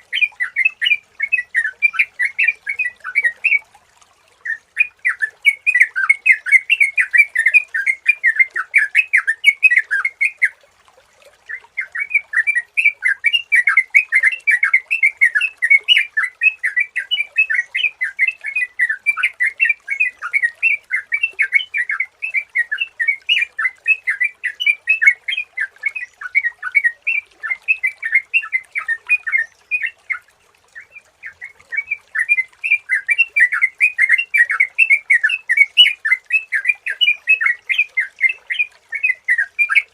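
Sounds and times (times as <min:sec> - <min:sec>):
bird bubbling chattering song: 0:00.0 - 0:10.6, 0:11.4 - 0:39.9.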